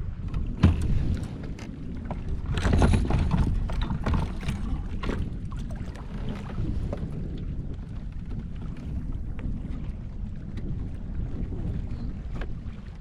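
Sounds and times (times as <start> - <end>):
water moving around kayak: 0.0 - 13.0
wind buffeting microphone: 0.0 - 13.0.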